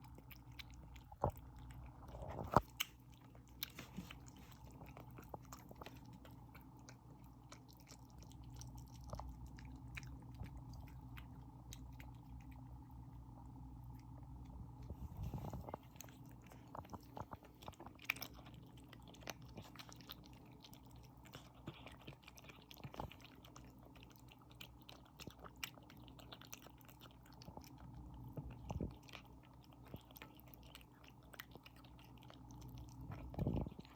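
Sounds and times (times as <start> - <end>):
kitten chewing food: 0.0 - 33.9.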